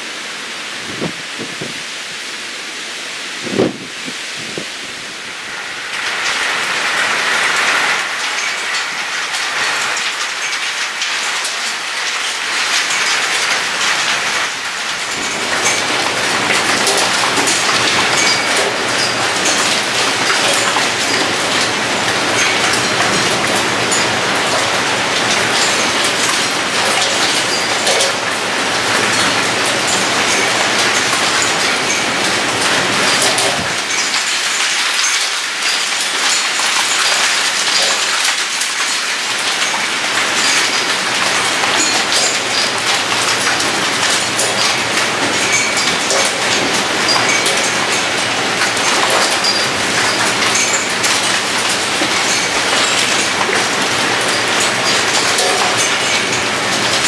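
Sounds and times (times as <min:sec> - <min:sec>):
hail and rain pelting a roof: 0:00.0 - 0:57.0.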